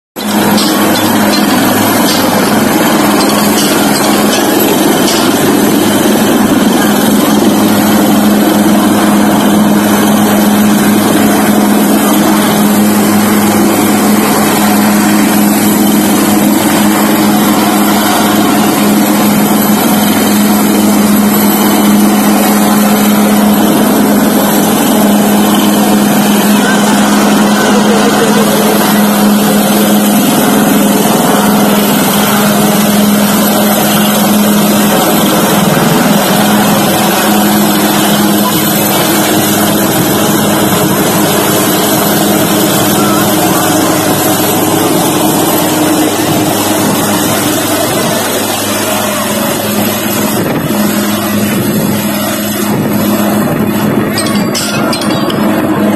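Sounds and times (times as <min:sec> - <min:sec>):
helicopter hovering: 0:00.2 - 0:55.9.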